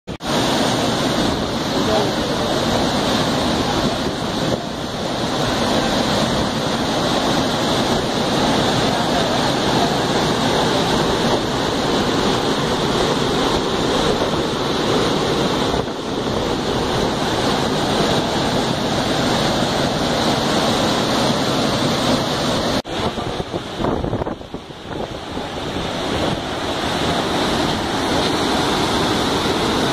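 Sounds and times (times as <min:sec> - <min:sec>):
rushing falling water: 0:00.1 - 0:29.9.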